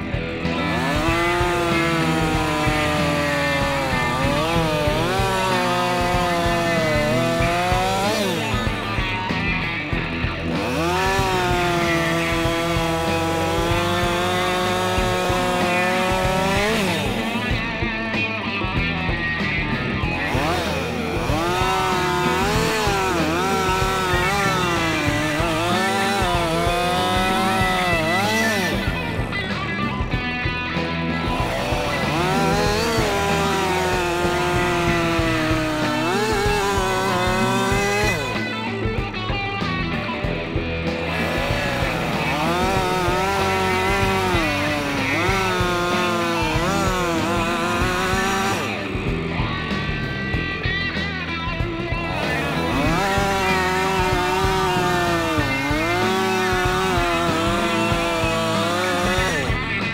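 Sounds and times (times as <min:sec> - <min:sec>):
background music: 0:00.0 - 0:59.9
chainsaw cutting log: 0:00.0 - 0:59.9.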